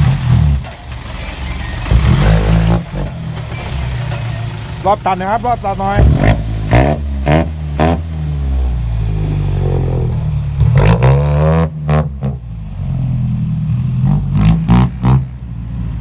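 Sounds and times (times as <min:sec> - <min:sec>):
truck engine revving under load: 0:00.0 - 0:16.0.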